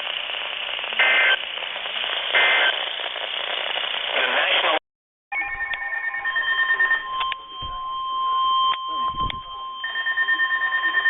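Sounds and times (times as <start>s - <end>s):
high weather radio alarm tone: 0.0s - 1.6s, 2.2s - 2.9s, 4.1s - 11.0s.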